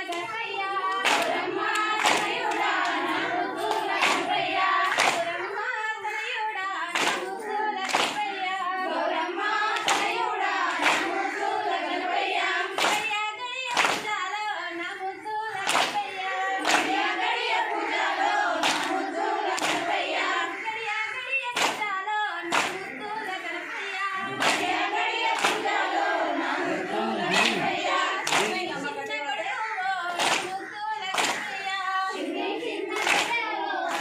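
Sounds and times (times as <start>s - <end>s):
hand claps: 0.0s - 6.2s, 6.9s - 8.6s, 9.4s - 14.4s, 15.6s - 20.7s, 21.5s - 23.6s, 24.3s - 29.2s, 30.2s - 34.0s
women singing in unison: 0.0s - 34.0s.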